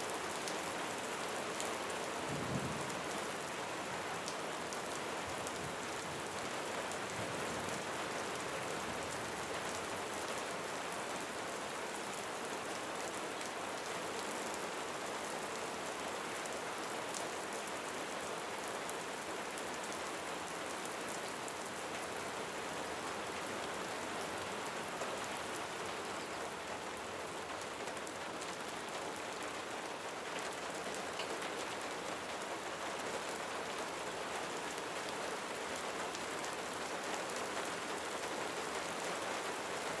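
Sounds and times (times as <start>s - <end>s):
rain falling on a roof: 0.0s - 40.0s.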